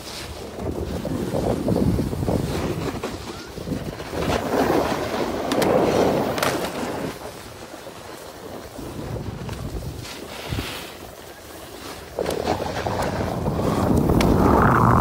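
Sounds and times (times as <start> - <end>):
wind rushing on microphone: 0.0 - 7.6, 8.4 - 11.1, 12.0 - 15.0
snowboard edges scraping snow: 0.0 - 15.0.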